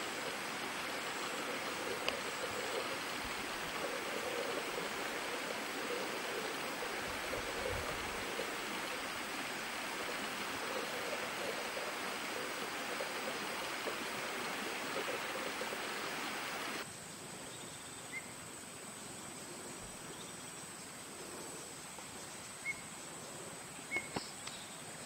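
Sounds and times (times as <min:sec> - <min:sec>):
high insect whine: 0:00.0 - 0:24.3.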